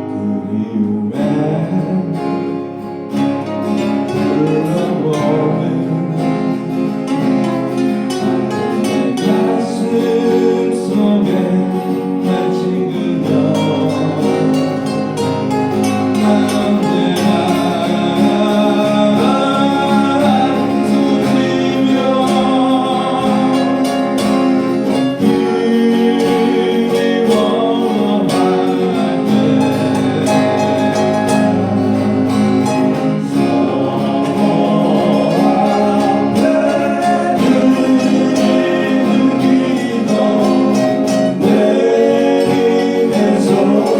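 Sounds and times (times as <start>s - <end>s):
person singing: 0.0s - 2.8s, 4.0s - 43.9s
acoustic guitar strumming: 0.0s - 43.9s.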